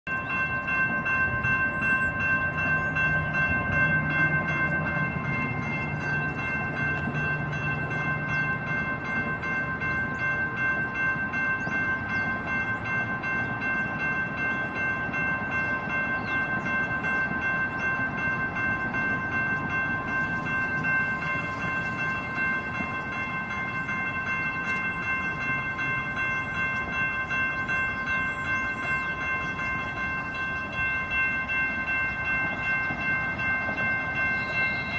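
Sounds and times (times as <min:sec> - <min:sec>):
crossing warning bells ringing: 0:00.0 - 0:34.9.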